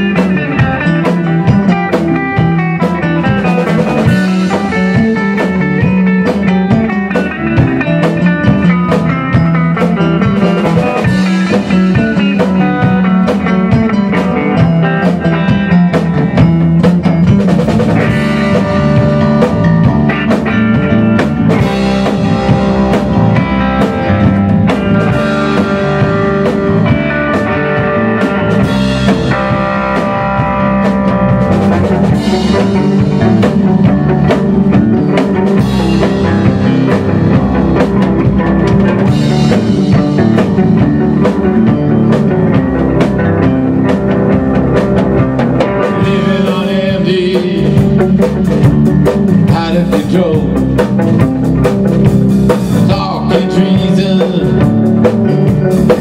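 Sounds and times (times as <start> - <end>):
drum kit beat: 0.0 - 56.0
electric guitar: 0.0 - 56.0.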